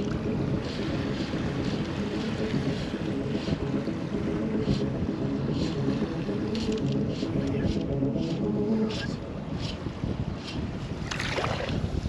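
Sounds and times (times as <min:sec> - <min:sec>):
shallow water lapping: 0:00.0 - 0:12.0
wind buffeting microphone: 0:00.0 - 0:12.0.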